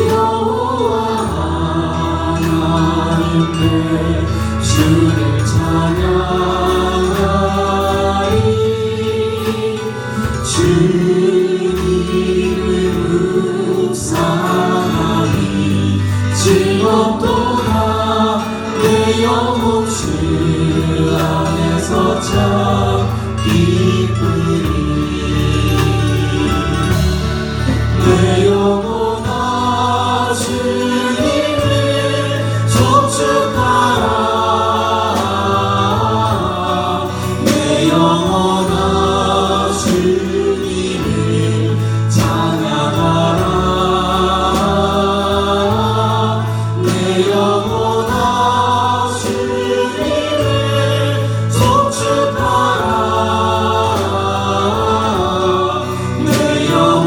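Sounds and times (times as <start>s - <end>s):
group singing praise song: 0.0s - 57.0s
instrumental accompaniment with beat: 0.0s - 57.0s.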